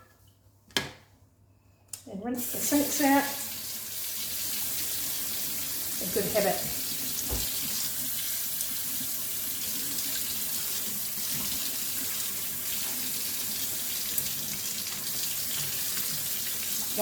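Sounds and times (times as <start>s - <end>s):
kitchen tap running into sink: 2.4s - 17.0s.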